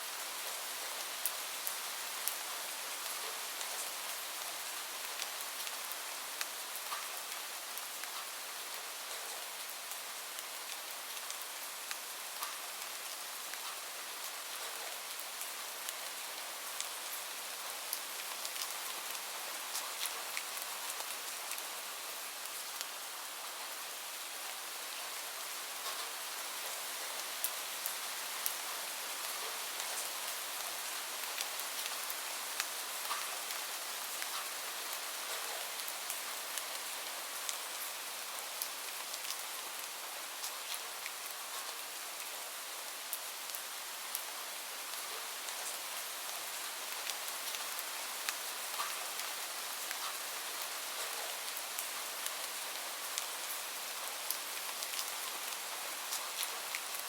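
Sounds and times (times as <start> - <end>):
raindrops ticking on a surface: 0.2 - 23.6, 24.2 - 57.0.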